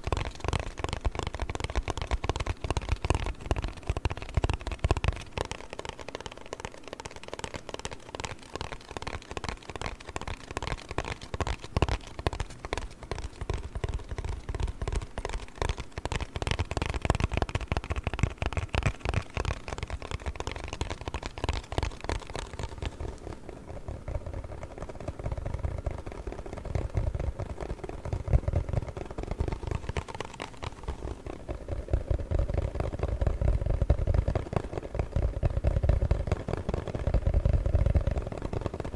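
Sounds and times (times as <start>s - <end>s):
tapping and scratching cardboard box: 0.0s - 38.9s.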